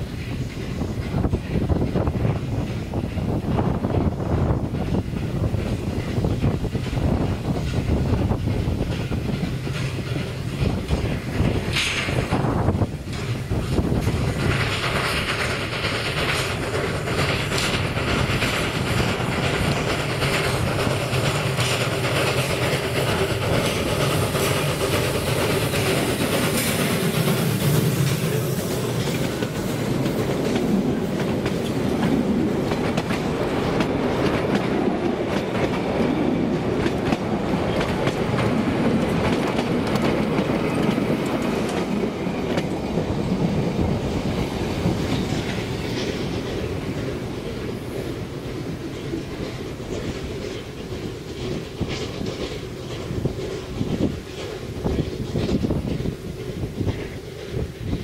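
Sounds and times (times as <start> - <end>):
train wheels clicking on rails: 0.0 - 58.0.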